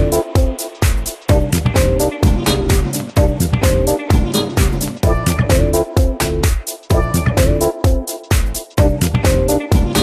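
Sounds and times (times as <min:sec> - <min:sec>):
dance music with drums and synth: 0:00.0 - 0:10.0.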